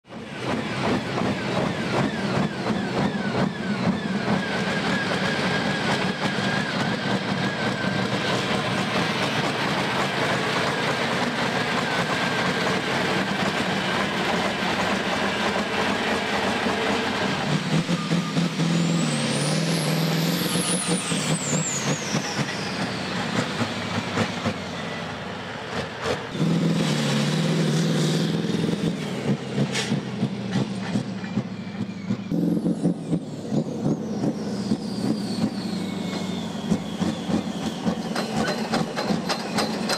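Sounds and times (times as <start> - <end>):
tractor engines running loudly: 0.0 - 39.9
high engine whine: 0.1 - 39.9.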